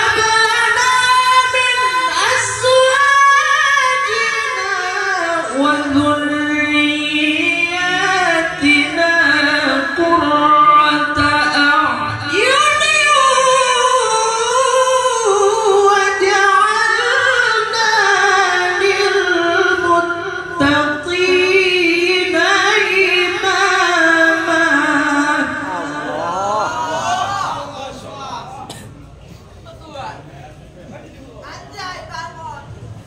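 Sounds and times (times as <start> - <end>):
man reciting melodically into microphone: 0.0 - 27.0.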